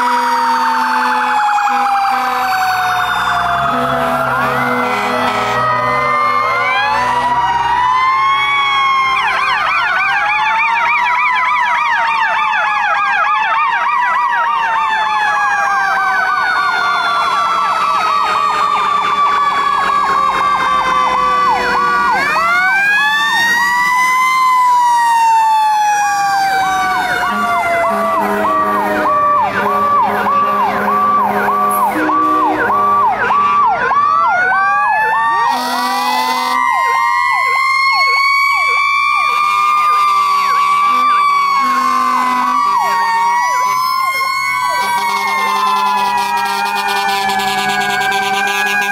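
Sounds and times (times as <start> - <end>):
fast two-tone siren yelp: 0.0 - 48.9
sirens wailing: 0.0 - 48.9.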